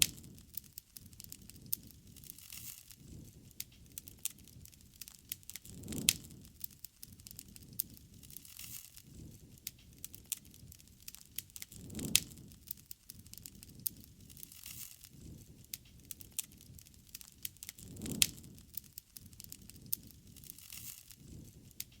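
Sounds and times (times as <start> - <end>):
campfire crackling: 0.0 - 22.0
loud fire pops: 0.0 - 22.0
low flame noise: 0.0 - 22.0.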